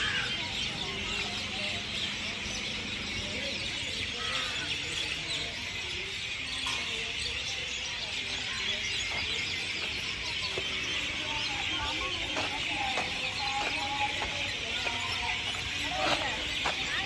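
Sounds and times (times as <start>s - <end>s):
birds chirping: 0.0s - 17.0s
faint voices of people: 0.0s - 17.0s.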